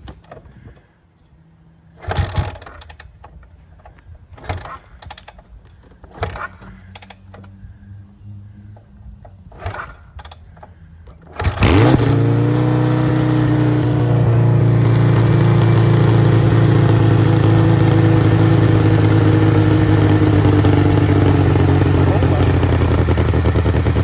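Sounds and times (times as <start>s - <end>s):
motorcycle engine starting and running: 1.9s - 24.0s.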